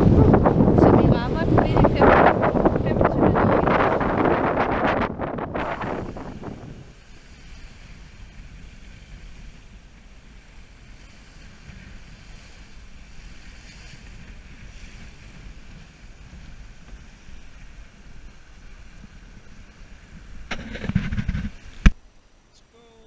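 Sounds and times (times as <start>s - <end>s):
wind buffeting microphone: 0.0s - 22.0s
water washing along boat hull: 0.0s - 23.0s.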